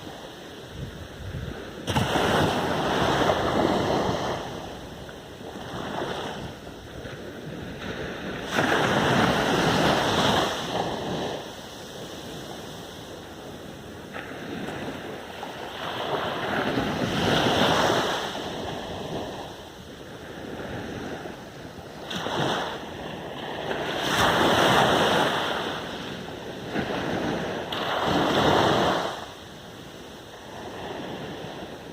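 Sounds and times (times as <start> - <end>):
waves breaking on beach: 0.0 - 31.9.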